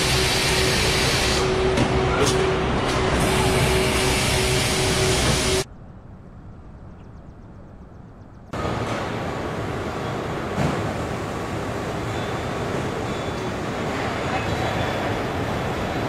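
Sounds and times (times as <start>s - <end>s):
busy warehouse din: 0.0s - 5.7s, 8.6s - 16.0s
industrial machinery noise: 0.0s - 5.7s, 8.6s - 16.0s.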